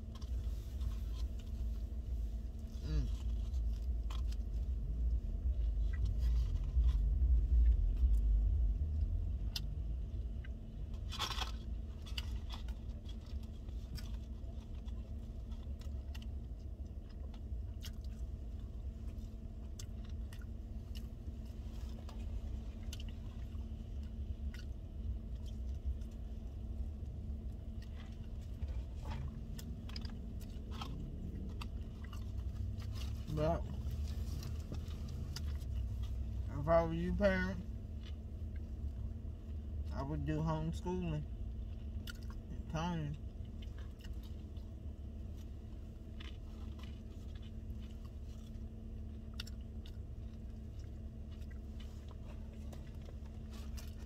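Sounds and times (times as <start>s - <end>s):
person chewing a wrap: 0.0s - 36.7s, 37.3s - 40.4s, 41.2s - 54.0s
steady low hum: 0.0s - 54.0s
crunch: 2.5s - 36.2s, 41.6s - 42.5s, 43.1s - 54.0s.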